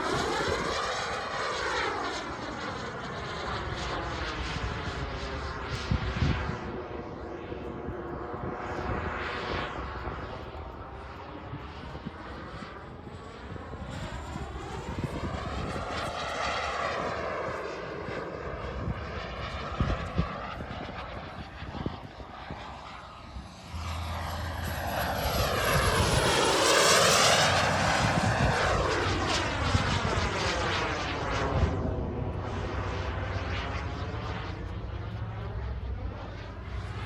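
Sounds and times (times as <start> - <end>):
jet turbine flying past: 0.0 - 37.0.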